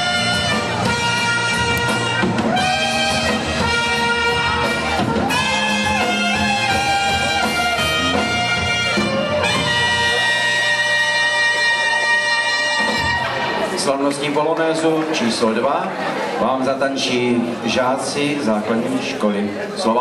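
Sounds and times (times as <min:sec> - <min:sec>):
dance band with saxophones and trumpets: 0:00.0 - 0:16.2.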